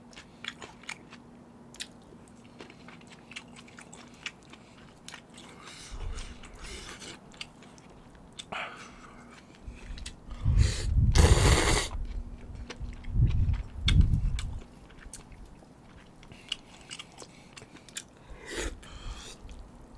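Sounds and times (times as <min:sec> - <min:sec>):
mouth clicks and chewing: 0:00.0 - 0:10.2, 0:11.1 - 0:19.7.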